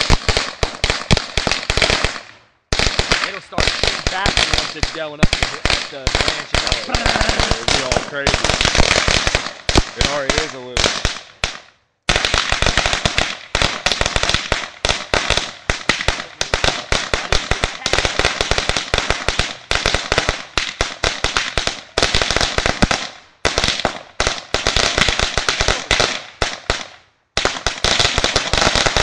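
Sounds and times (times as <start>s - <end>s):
firecrackers popping: 0.0s - 29.0s.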